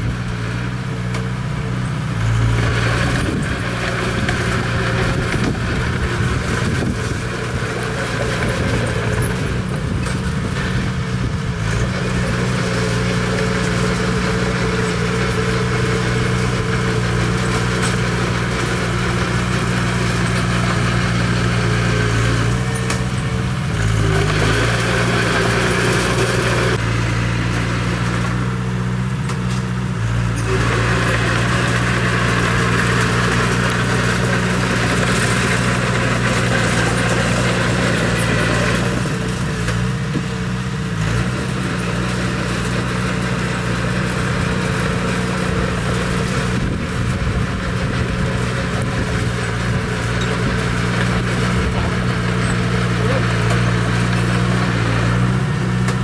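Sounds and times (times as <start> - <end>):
bulldozer engine droning: 0.0 - 56.0
machine grinding noise: 0.0 - 56.0.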